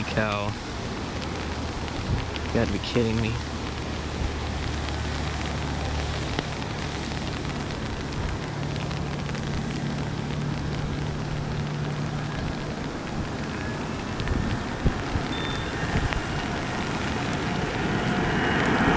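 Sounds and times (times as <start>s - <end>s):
jet engines passing overhead: 0.0s - 18.9s
rain falling: 0.0s - 18.9s.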